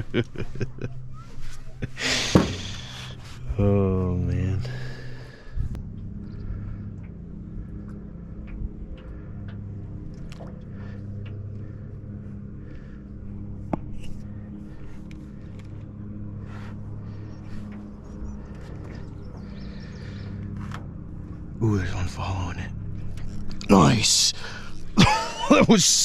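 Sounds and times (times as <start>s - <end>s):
motor humming: 0.0s - 25.7s.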